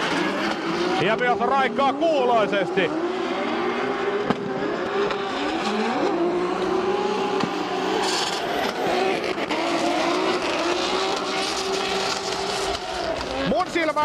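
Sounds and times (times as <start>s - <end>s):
car engines at full throttle: 0.0s - 14.0s.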